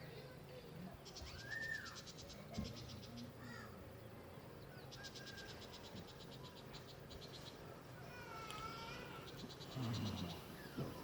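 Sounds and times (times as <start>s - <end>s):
faint birds calling: 0.0s - 11.0s.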